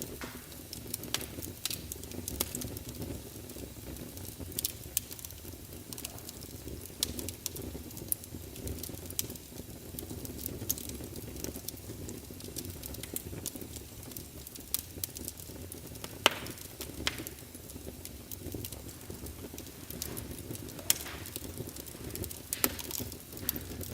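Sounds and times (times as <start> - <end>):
logs crackling and popping: 0.0 - 23.9
low rumble of flames: 0.0 - 23.9.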